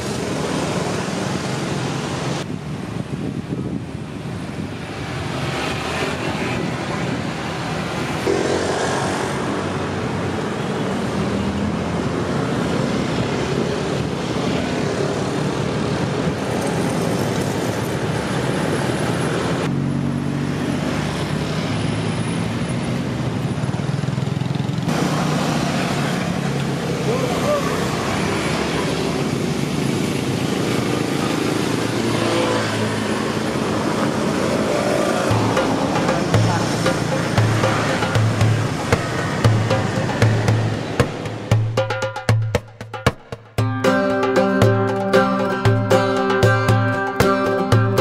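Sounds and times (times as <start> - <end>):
cars and motorbikes passing: 0.0 - 48.0
road noise: 0.0 - 48.0.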